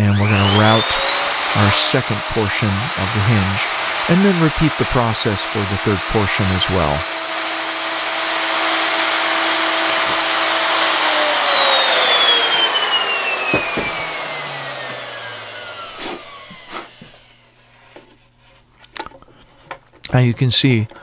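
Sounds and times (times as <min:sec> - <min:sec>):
router motor whine: 0:00.0 - 0:17.5.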